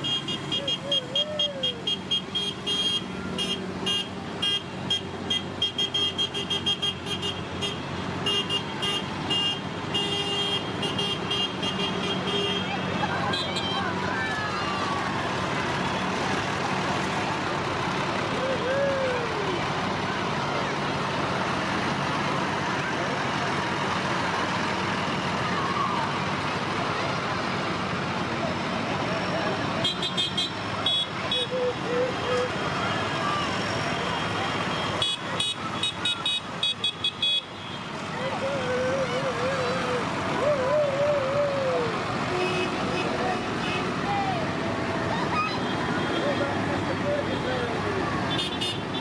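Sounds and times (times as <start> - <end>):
rumble of road vehicles: 0.0 - 49.0
tractor engines running: 0.0 - 49.0.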